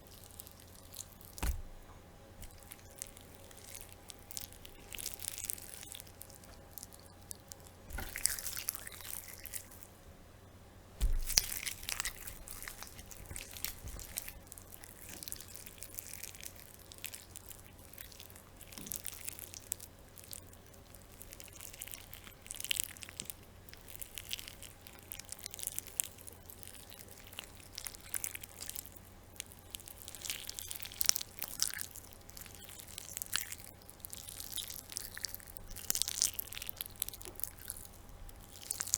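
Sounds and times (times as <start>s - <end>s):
wet squelching and tearing flesh: 0.0s - 9.9s, 11.0s - 38.9s
faint steady hum: 0.0s - 38.9s.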